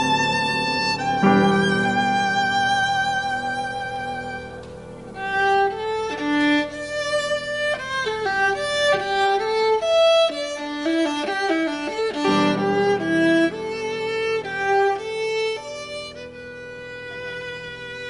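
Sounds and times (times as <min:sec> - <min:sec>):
violin playing slow melody: 0:00.0 - 0:18.0.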